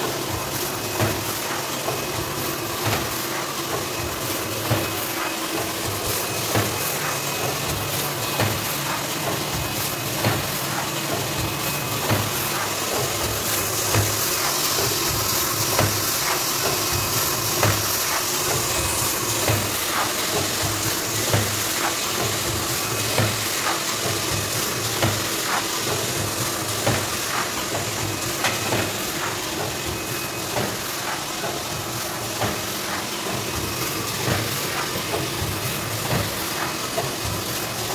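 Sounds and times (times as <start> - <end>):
steady mechanical hiss: 0.0 - 37.9.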